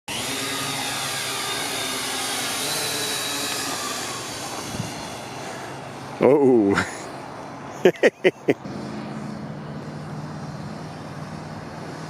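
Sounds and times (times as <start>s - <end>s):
drone propellers whining: 0.1s - 12.0s.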